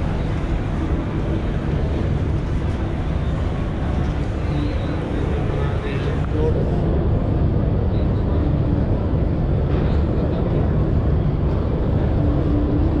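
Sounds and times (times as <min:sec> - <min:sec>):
faint indistinct voices: 0:00.0 - 0:13.0
low rumble of hall: 0:00.0 - 0:13.0
steady hum: 0:00.0 - 0:13.0.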